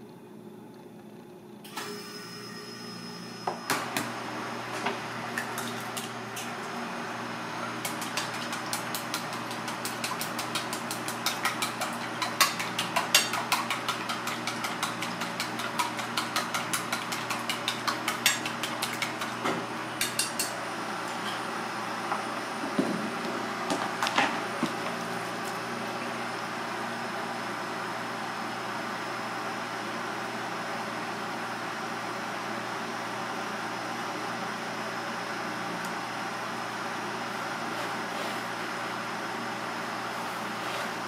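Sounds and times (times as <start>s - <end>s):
kitchen hum: 0.0s - 30.4s, 31.0s - 41.0s.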